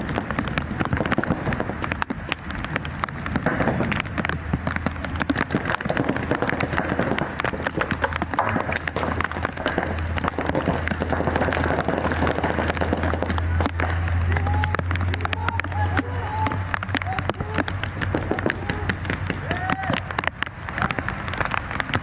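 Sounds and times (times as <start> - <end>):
paintball markers firing: 0.0 - 22.0
rain: 0.0 - 22.0
steady low rumble: 0.0 - 22.0.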